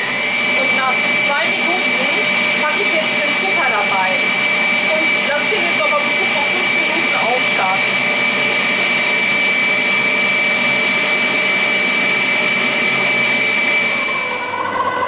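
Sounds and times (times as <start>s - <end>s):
stand mixer motor whining: 0.0s - 15.0s.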